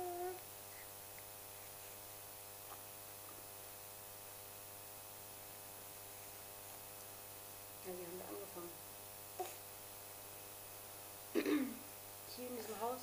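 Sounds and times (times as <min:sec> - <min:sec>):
faint electrical hum and hiss: 0:00.0 - 0:13.0.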